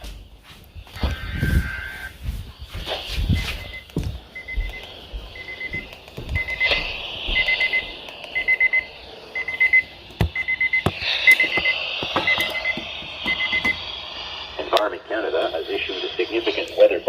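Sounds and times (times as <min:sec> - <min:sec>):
steady hiss: 0:00.0 - 0:17.0
electronic alarm beeping: 0:01.0 - 0:14.7.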